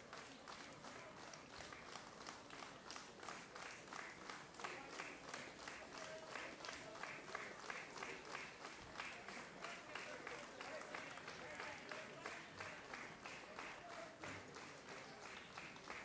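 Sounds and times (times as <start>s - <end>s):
audience applauding rhythmically: 0.0s - 16.0s.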